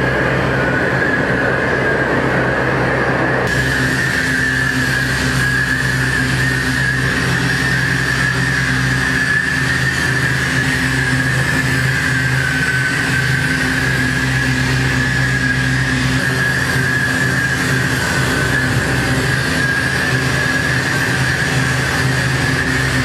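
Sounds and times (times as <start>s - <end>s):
engine-like drone with whine: 0.0s - 23.0s.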